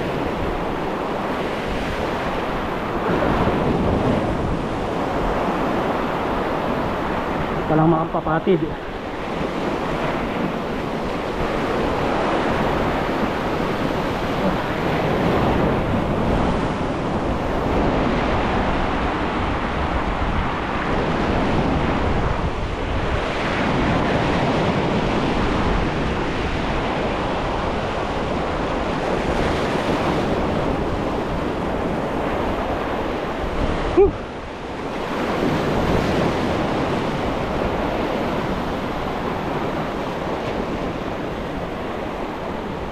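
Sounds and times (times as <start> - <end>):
waves breaking over rocks: 0.0 - 42.9
wind buffeting microphone: 0.0 - 42.9.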